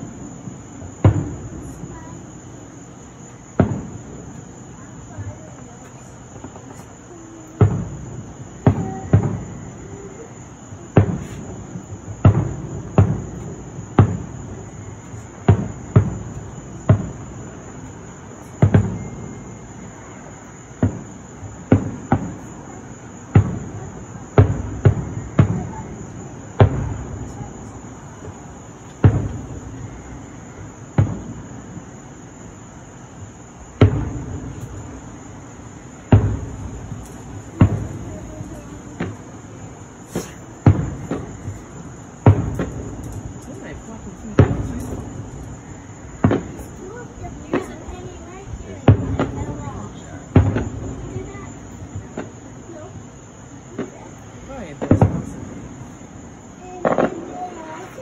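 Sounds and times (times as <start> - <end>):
distant fireworks booming: 0.0 - 58.0.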